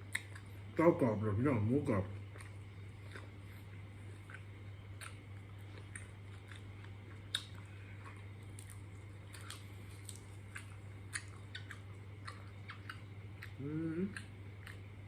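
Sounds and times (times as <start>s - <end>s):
person chewing crunchy food: 0.0s - 0.8s, 2.2s - 15.0s
steady low hum: 0.0s - 15.0s.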